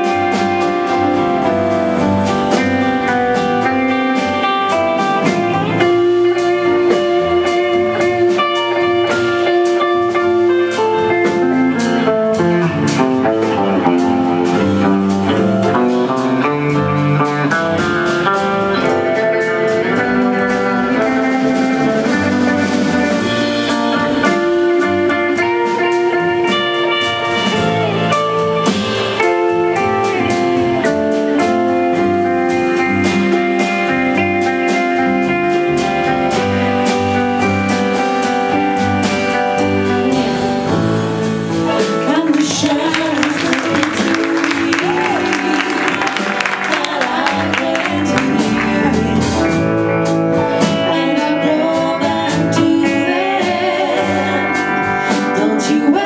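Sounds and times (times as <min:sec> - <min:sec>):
electric guitar: 0:00.0 - 0:56.0
live band playing: 0:00.0 - 0:56.0.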